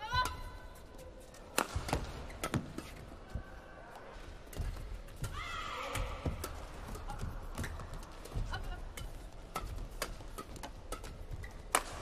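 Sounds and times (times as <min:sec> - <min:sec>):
rackets striking shuttlecock: 0:00.2 - 0:03.0, 0:04.5 - 0:12.0.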